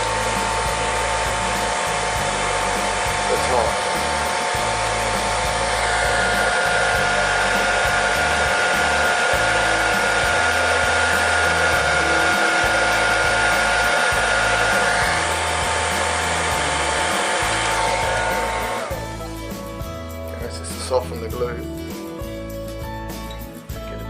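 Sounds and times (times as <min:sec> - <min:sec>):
hair dryer blowing: 0:00.0 - 0:19.9
hair dryer switching off: 0:00.0 - 0:20.0.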